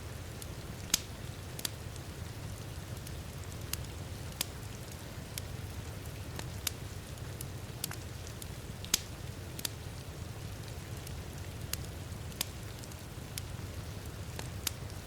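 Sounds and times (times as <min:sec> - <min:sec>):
wood fire crackling and popping: 0:00.2 - 0:15.0.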